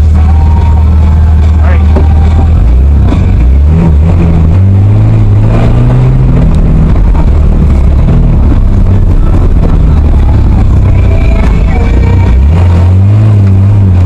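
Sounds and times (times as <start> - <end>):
car engine running loudly: 0.0 - 14.0.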